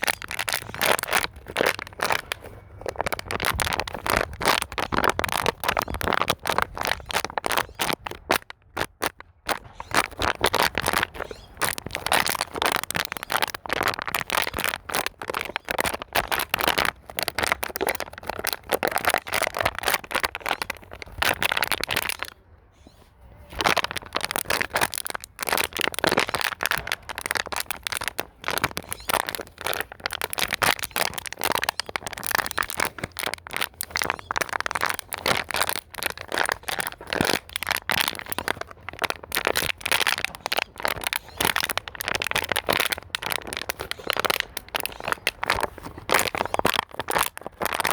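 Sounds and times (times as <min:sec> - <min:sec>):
plastic bottle crackling: 0:00.0 - 0:22.4, 0:23.4 - 0:47.9.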